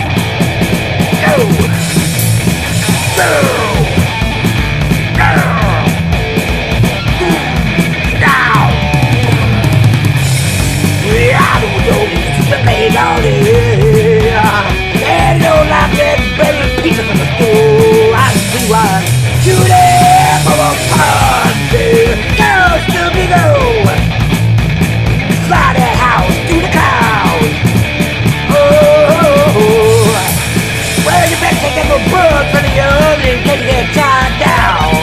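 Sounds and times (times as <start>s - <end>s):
fast driving drums: 0.0s - 35.0s
punk rock instrumental: 0.0s - 35.0s
sliding lead guitar line: 0.0s - 35.0s.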